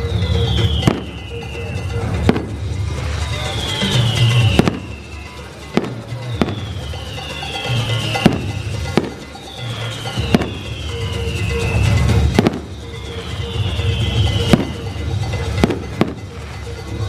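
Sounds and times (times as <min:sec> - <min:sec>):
fireworks banging: 0:00.0 - 0:17.0
loud background music: 0:00.0 - 0:17.0.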